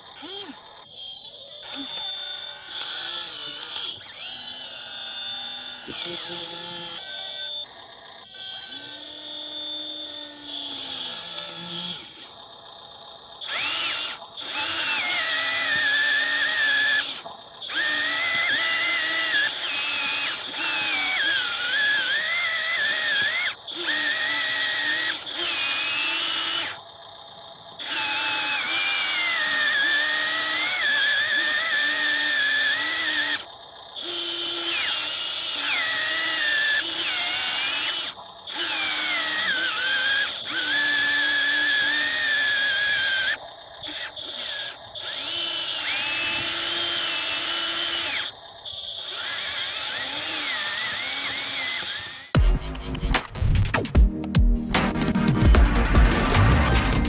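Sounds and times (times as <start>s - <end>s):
toy excavator electric motors whining: 0.0s - 52.4s.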